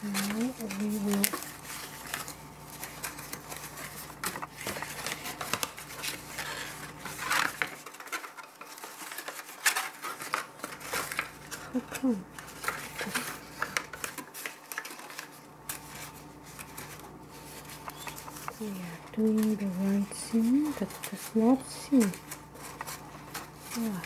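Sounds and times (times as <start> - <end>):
stiff paper rustling and crackling: 0.0 - 24.0.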